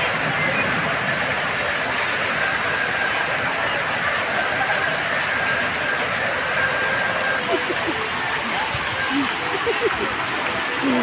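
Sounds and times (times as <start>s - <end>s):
fountain water cascading into pool: 0.0s - 11.0s.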